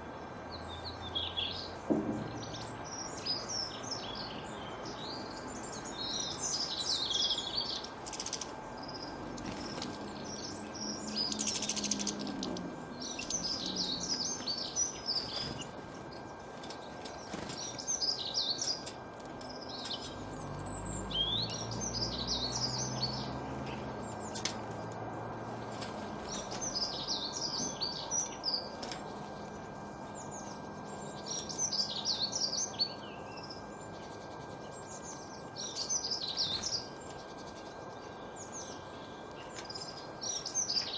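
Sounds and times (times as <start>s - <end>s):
birds chirping: 0.0s - 40.9s
faint constant tone: 0.0s - 40.9s.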